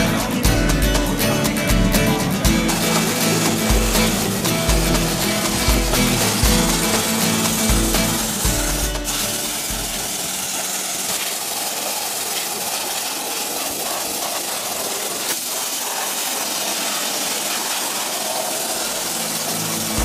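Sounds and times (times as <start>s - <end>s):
compressed air jet hissing: 2.2s - 20.0s.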